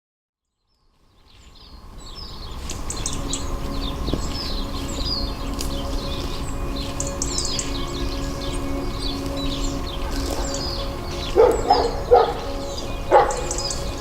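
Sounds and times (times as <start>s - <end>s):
small birds chirping: 0.6s - 14.0s.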